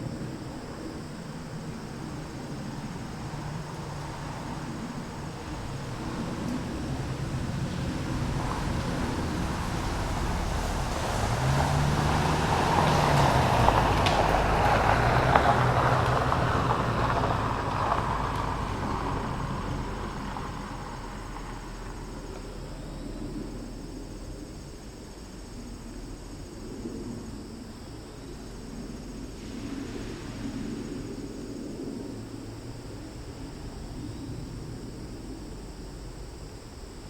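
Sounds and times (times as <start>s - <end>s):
car passing by: 0.1s - 27.4s, 28.4s - 37.0s.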